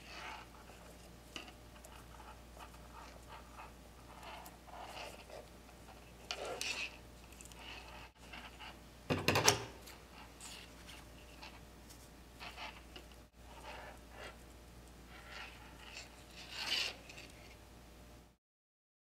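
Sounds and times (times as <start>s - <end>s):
cord rubbing and rustling: 0.0s - 8.8s, 9.7s - 17.6s.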